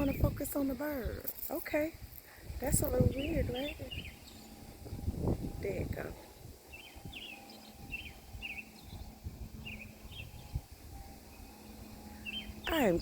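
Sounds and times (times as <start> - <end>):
low outdoor rumble: 0.0 - 13.0
bird chirping: 2.2 - 13.0.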